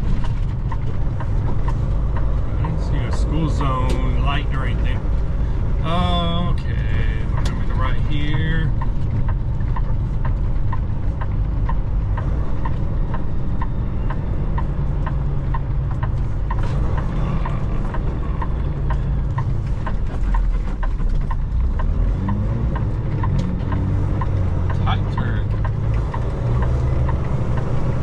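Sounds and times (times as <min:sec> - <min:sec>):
diesel engine rumble: 0:00.0 - 0:28.0
road noise: 0:00.0 - 0:28.0
turn signal ticking: 0:00.0 - 0:28.0.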